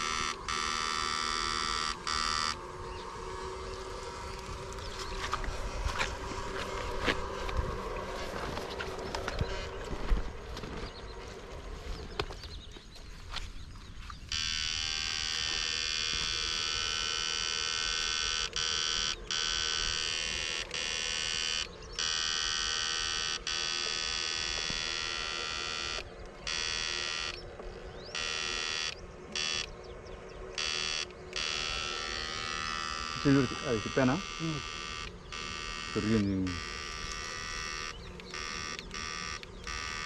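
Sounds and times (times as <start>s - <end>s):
high-pitched electric buzz: 0.0s - 12.3s, 14.0s - 40.0s.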